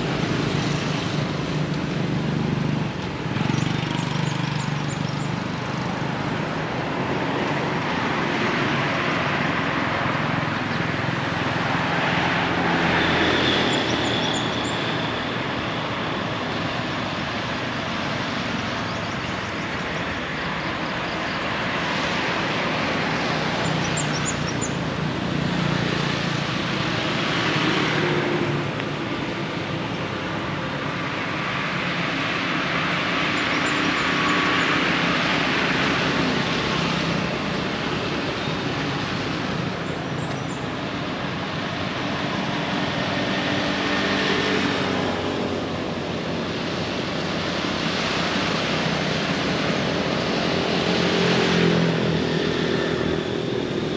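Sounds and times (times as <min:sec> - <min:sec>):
vehicles passing: 0:00.0 - 0:53.9.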